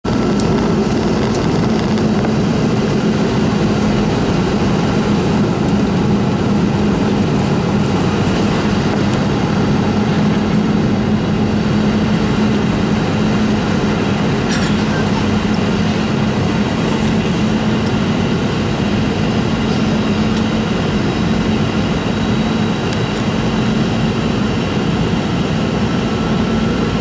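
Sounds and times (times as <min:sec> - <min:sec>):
airliner cabin jet engine drone: 0:00.0 - 0:27.0
steady low hum: 0:00.1 - 0:27.0.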